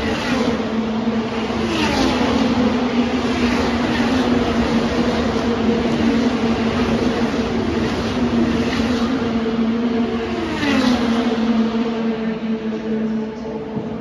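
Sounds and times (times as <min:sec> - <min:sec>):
race cars passing at speed: 0:00.0 - 0:14.0.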